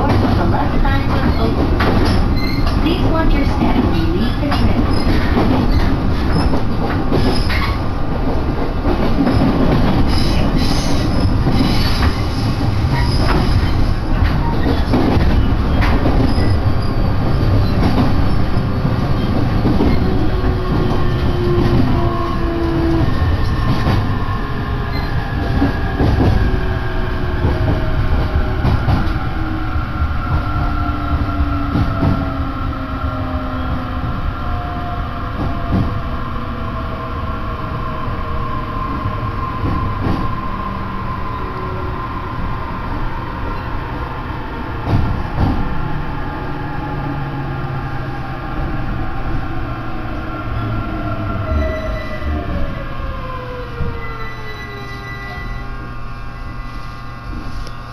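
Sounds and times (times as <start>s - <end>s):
low train rumble: 0.0s - 57.9s.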